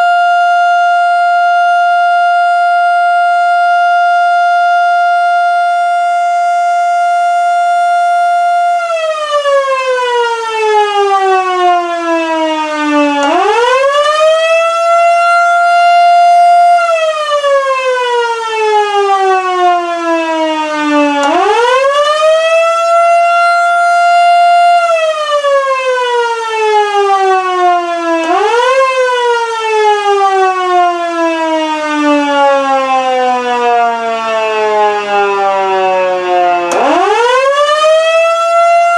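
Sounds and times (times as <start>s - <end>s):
electromechanical siren wailing: 0.0s - 38.9s.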